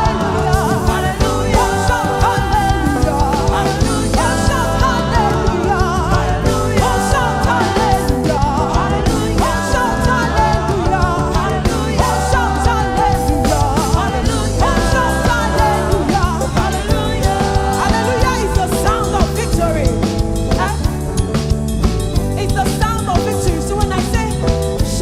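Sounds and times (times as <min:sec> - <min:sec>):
worship music with singing: 0:00.0 - 0:21.0.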